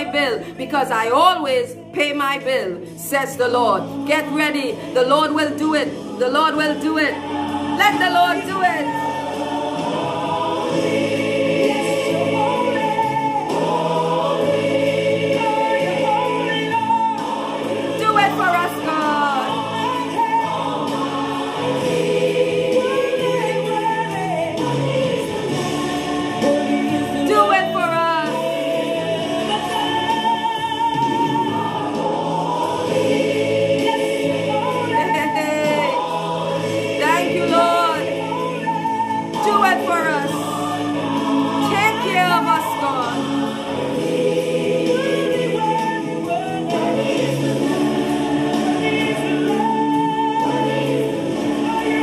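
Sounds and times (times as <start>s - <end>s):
gospel choir singing: 0.0s - 52.0s
steady musical accompaniment: 0.0s - 52.0s.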